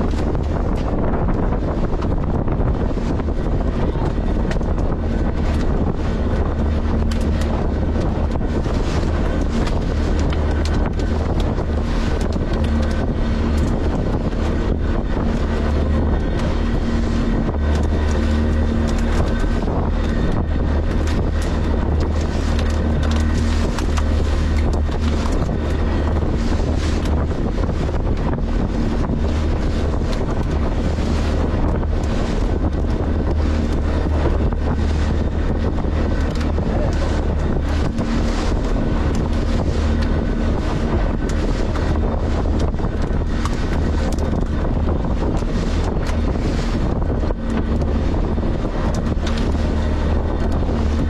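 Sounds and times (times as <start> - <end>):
boat engine humming: 0.0 - 51.0
wind buffeting microphone: 0.0 - 51.0.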